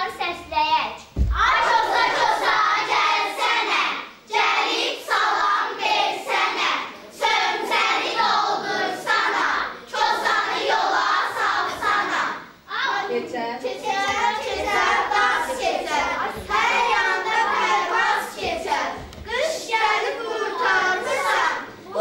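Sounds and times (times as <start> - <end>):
children singing in unison: 1.4 - 13.0, 13.7 - 22.0.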